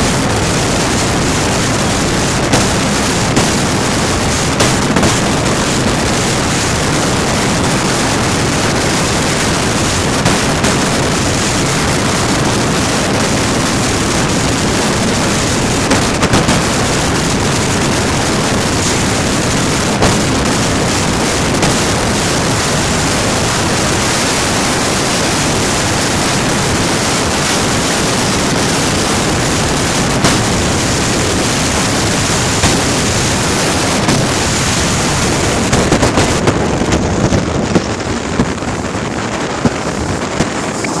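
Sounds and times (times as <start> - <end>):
personal watercraft engine: 0.0 - 41.0
water splashing: 0.0 - 41.0
wind buffeting microphone: 0.0 - 41.0.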